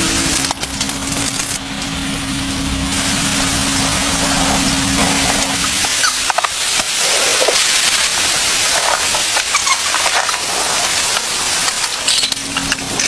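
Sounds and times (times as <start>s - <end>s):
sharp crackles and clicks: 0.0s - 13.0s
heavy rain hissing: 1.6s - 13.0s.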